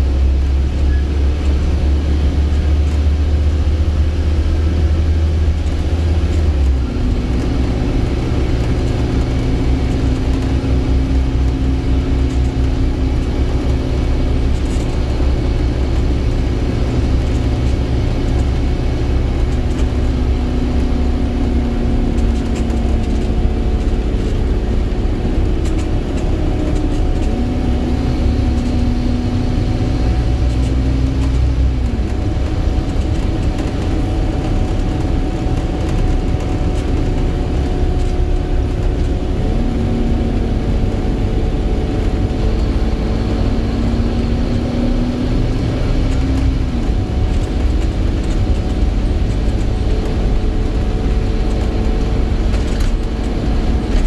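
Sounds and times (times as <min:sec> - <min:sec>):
bus engine deep drone: 0:00.0 - 0:54.0.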